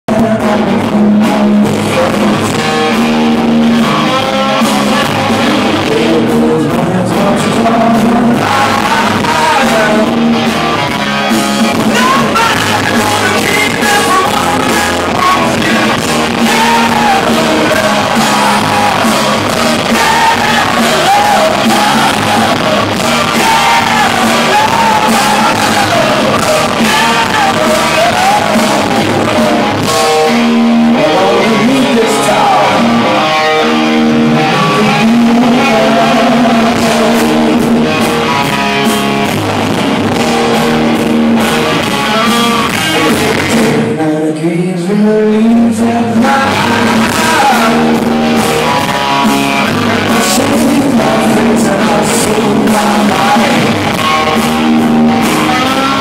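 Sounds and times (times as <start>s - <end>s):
man singing: 0.0s - 10.4s, 11.7s - 38.0s, 41.3s - 54.2s, 55.1s - 56.0s
rock band playing: 0.1s - 56.0s.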